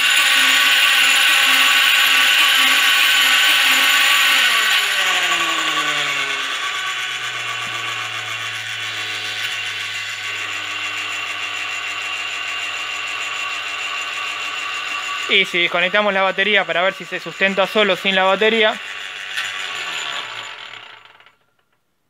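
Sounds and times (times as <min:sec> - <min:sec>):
flywheel rig whirring and rattling: 0:00.0 - 0:21.8.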